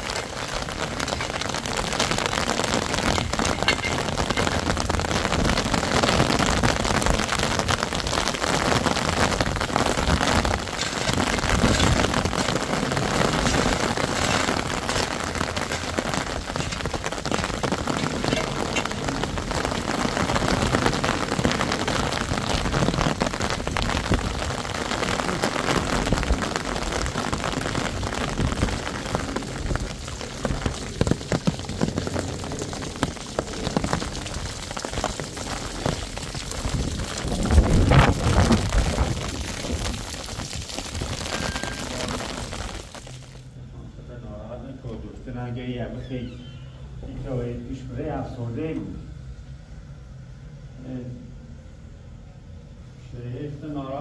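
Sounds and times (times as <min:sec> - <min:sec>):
rain on wet ground: 0:00.0 - 0:43.6.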